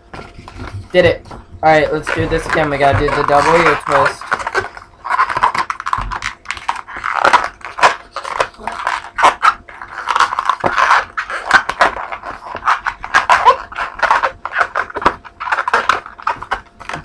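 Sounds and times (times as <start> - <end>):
balloon squeaking and creaking: 0.0 - 17.0.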